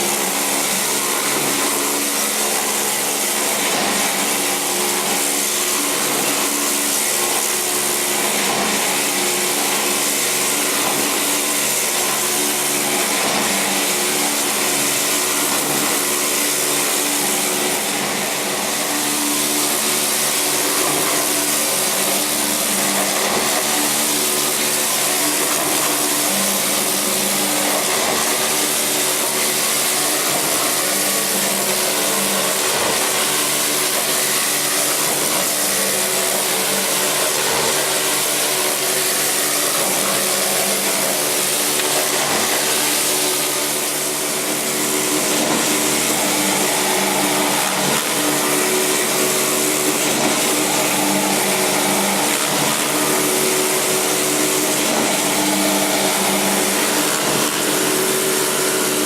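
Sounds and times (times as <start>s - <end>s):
machine whirring and humming: 0.0s - 59.0s.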